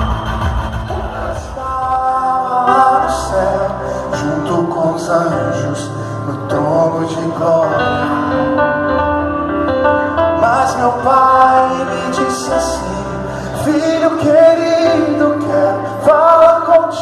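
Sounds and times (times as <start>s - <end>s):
sustained instrumental chords: 0.0s - 16.4s
person singing: 0.9s - 17.0s.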